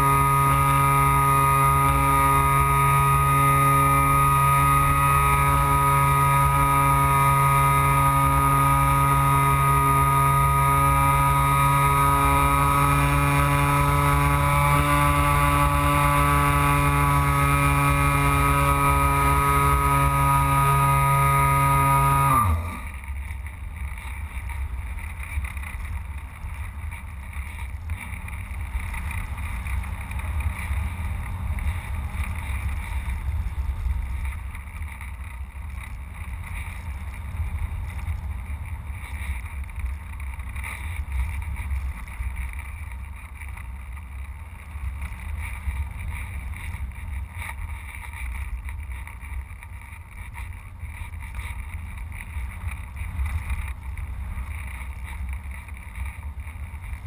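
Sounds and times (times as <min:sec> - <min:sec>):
electric motor and propeller whine: 0:00.0 - 0:57.0
wind buffeting camera: 0:02.0 - 0:57.0.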